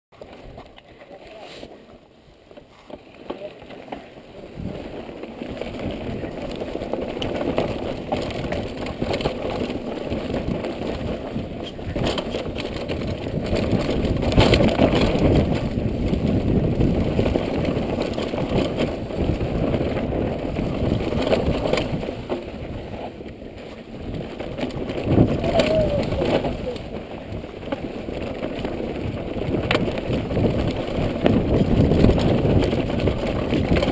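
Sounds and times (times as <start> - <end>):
bike rattling and knocking: 2.5 - 33.9
tyres rumbling over dirt and stones: 2.5 - 33.9.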